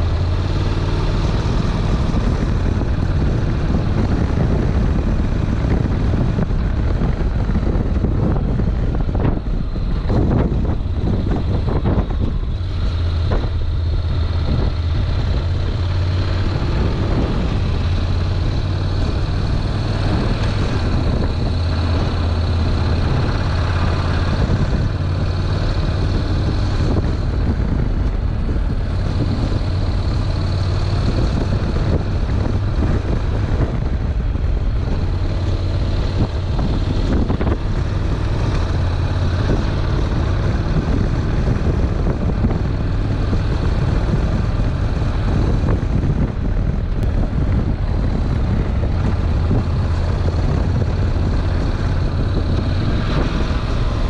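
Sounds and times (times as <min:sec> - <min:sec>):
motorcycle engine droning: 0:00.0 - 0:54.0
wind rushing over microphone: 0:00.0 - 0:54.0.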